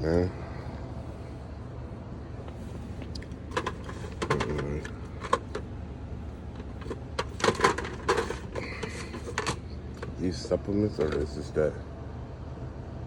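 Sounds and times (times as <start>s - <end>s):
low store hum: 0.0s - 13.0s.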